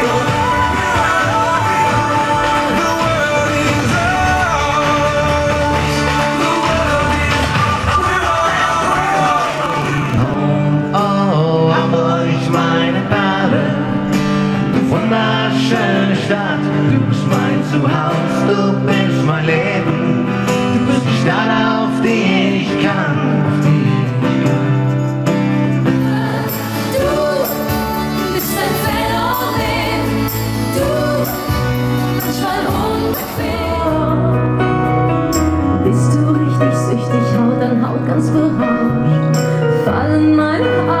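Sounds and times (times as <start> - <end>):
acoustic band with accordion: 0.0 - 40.5
men singing with acoustic guitar: 0.0 - 41.0.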